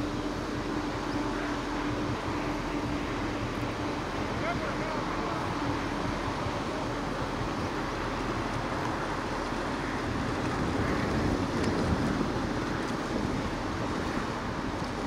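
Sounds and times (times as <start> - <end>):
truck engine droning: 0.0 - 15.0
water wash of wake: 0.0 - 15.0.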